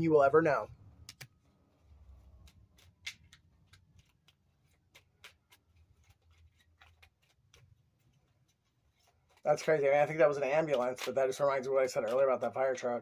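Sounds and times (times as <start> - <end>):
cards shuffling: 1.0 - 13.0.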